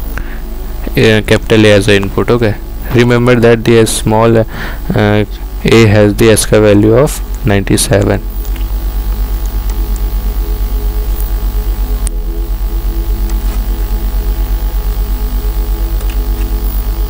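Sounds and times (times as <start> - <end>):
pulsing electrical hum: 0.0 - 17.0.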